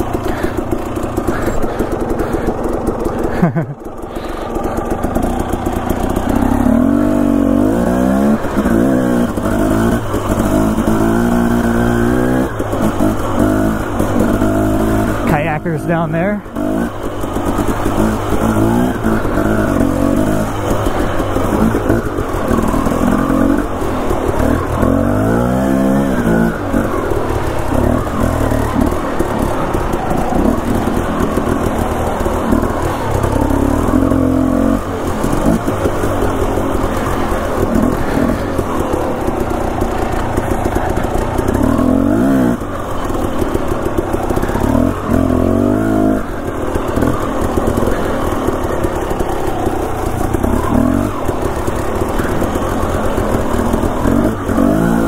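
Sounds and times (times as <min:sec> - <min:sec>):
two-stroke dirt bike engine: 0:00.0 - 0:55.0.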